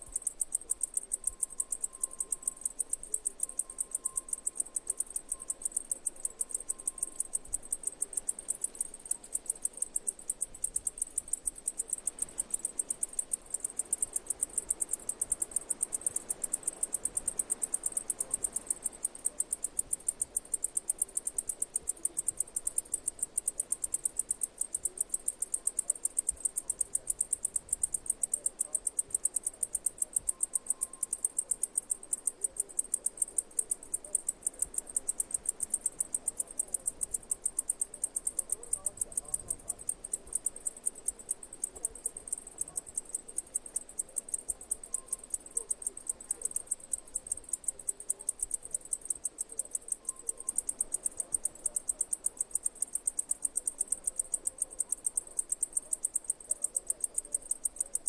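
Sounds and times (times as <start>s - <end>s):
insect chirping: 0.0s - 58.0s.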